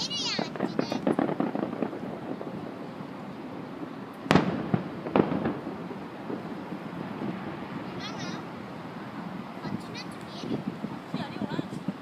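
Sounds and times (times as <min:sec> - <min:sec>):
firework shells booming: 0:00.0 - 0:12.0.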